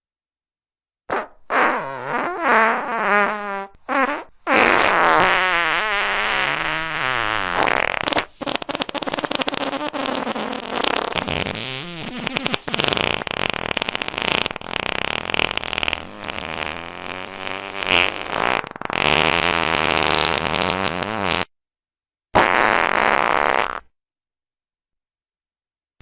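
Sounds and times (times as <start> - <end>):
sputtering farts: 1.1 - 21.5, 22.4 - 24.0.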